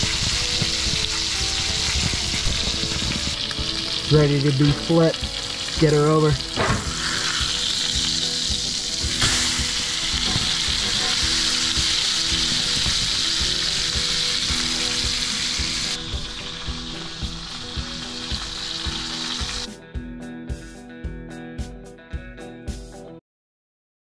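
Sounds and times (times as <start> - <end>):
steaks sizzling on grill: 0.0 - 19.8.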